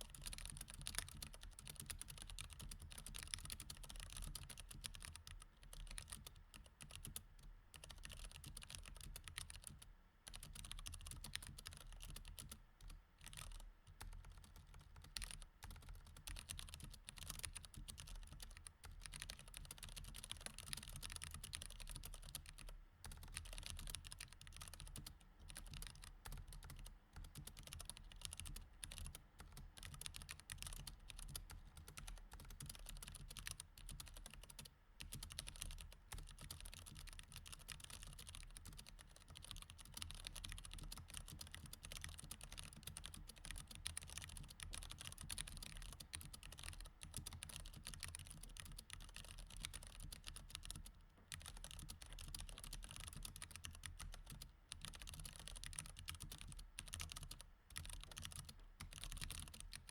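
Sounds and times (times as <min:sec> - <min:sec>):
mechanical keyboard typing: 0:00.1 - 0:07.2, 0:07.8 - 0:59.9.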